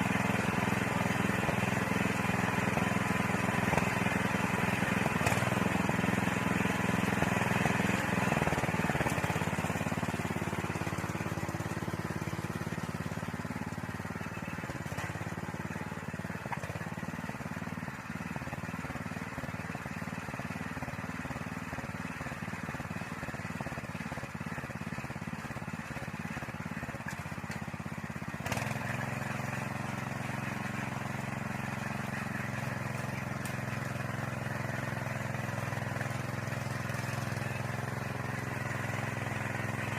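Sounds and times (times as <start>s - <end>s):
tiller engine running: 0.0s - 39.9s.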